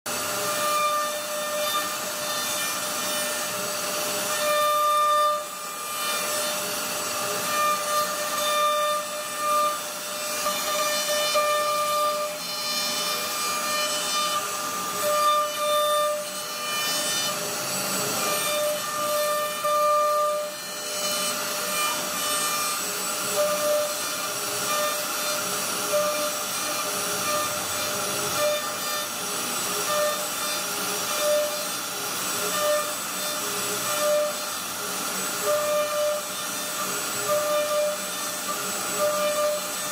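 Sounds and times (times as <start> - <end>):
bit rasping through wood: 0.1 - 39.9
router spindle whine: 0.1 - 39.9.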